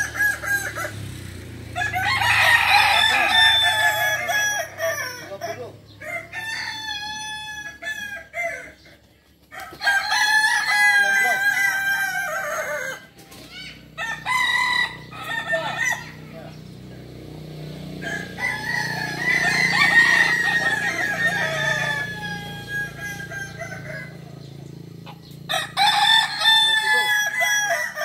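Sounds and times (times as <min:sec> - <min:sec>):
roosters crowing: 0:00.0 - 0:28.0.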